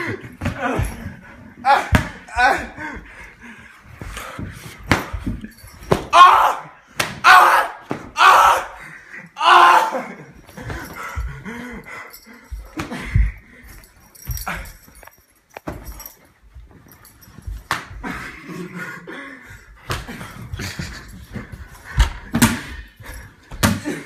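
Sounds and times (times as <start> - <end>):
people scuffling and thumping: 0.0 - 24.0.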